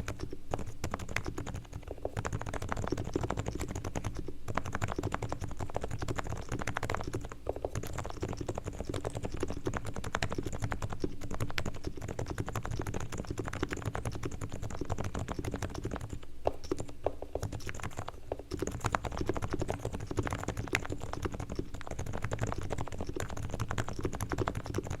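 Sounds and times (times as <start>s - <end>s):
soft keyboard typing: 0.0s - 25.0s.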